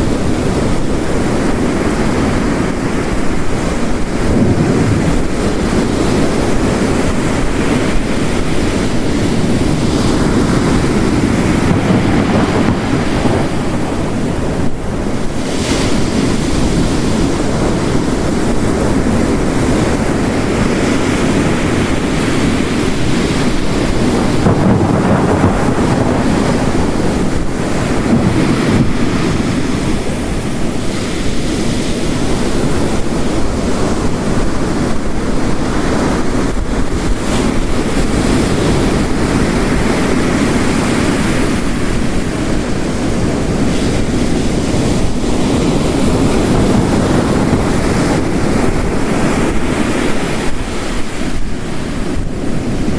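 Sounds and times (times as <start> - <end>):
heavy rain: 0.0 - 52.9
ocean waves crashing: 0.0 - 52.9.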